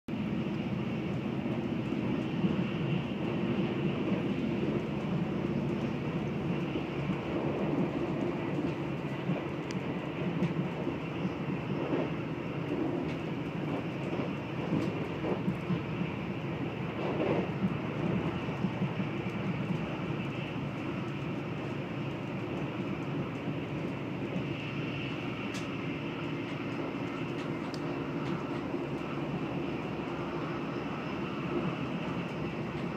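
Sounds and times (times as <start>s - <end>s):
train wheels rumbling on track: 0.1s - 32.9s.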